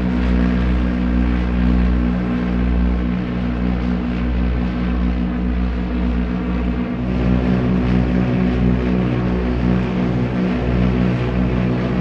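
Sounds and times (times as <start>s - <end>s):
propeller plane engines droning: 0.0s - 12.0s.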